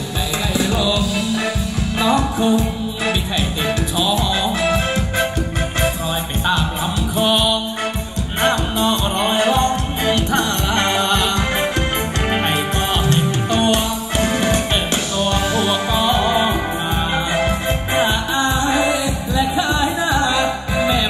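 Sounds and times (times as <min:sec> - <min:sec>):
folk dance music through pa: 0:00.0 - 0:21.0
person singing: 0:00.0 - 0:21.0.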